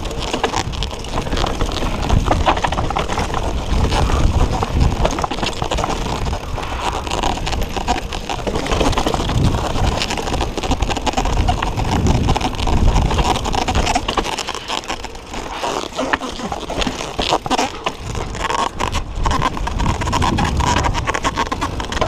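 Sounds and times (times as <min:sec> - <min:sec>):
wind buffeting microphone: 0:00.0 - 0:14.1, 0:17.4 - 0:22.0
bike rattling over bumps: 0:00.0 - 0:22.0
tyre rumble on dirt: 0:00.0 - 0:22.0.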